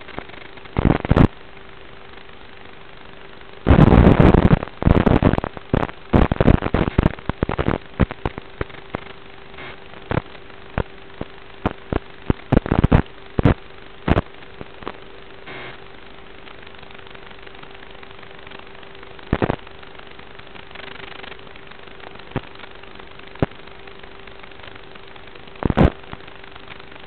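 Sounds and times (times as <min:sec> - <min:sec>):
faint hum: 0:00.0 - 0:27.0
static crackle: 0:00.0 - 0:27.0
steady hiss: 0:00.0 - 0:27.0.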